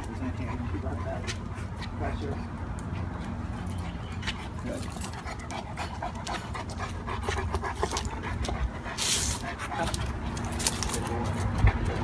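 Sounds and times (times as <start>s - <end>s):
dog panting hard: 0.0s - 12.0s.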